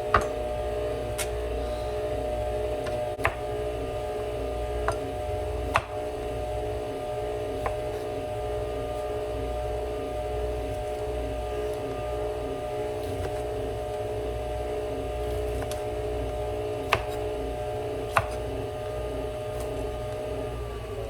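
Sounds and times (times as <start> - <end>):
kitchen hum with low rumble: 0.0 - 21.0.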